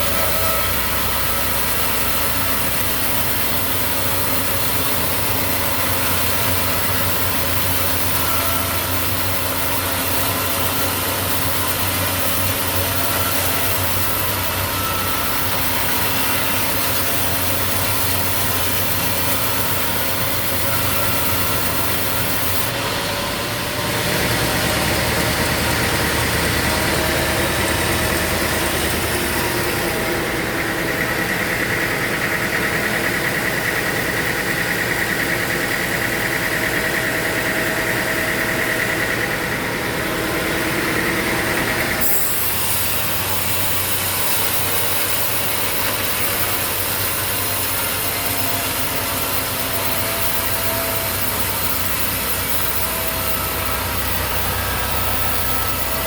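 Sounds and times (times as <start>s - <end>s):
high steady whine: 0.0s - 56.0s
sawmill machinery humming: 0.0s - 56.0s.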